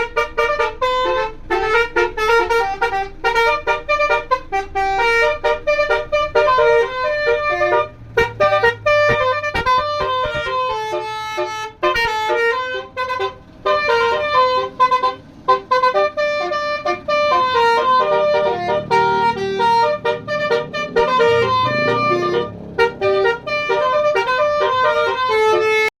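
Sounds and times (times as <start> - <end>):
truck air horn playing a tune: 0.0 - 25.9.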